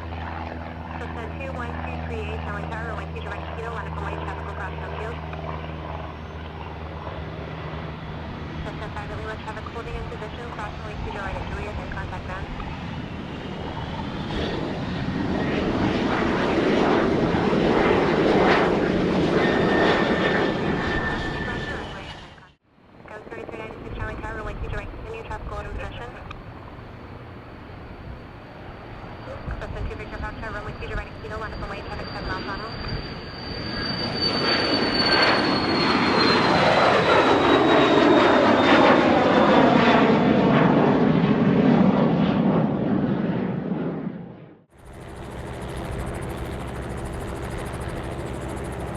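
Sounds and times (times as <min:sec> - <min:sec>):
steady high whine: 0:00.0 - 0:39.0, 0:44.6 - 0:48.9
airplane engine passing: 0:00.0 - 0:48.9.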